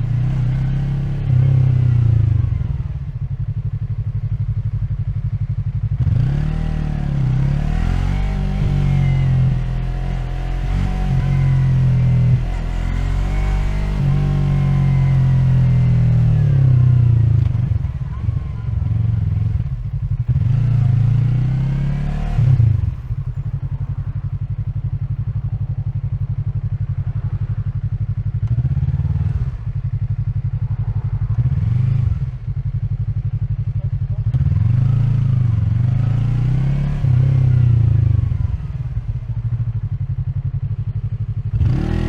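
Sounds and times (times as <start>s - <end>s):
motorcycle engine revving and idling: 0.0s - 42.0s
motorcycle throttle blips: 0.0s - 42.0s.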